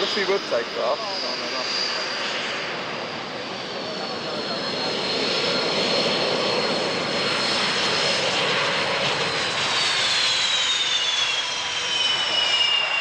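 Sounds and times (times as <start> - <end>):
high jet whine: 0.0 - 13.0
jet engines roaring: 0.0 - 13.0.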